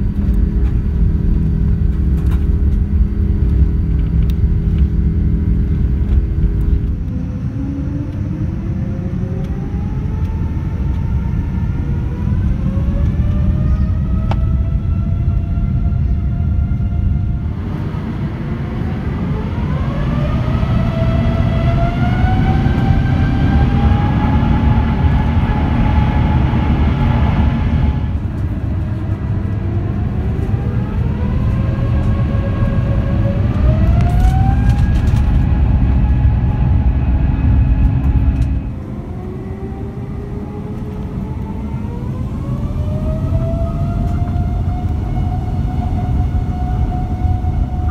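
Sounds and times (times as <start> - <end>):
jet engines spooling up: 0.0 - 47.9.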